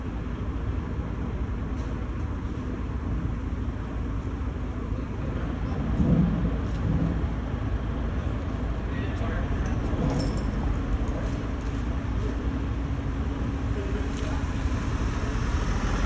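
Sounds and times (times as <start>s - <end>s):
city traffic rumble: 0.0s - 16.0s
construction site noise: 0.0s - 16.0s.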